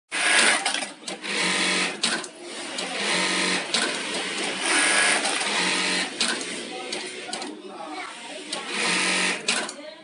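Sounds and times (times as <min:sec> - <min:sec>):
sewing machine stitching: 0:00.1 - 0:09.8.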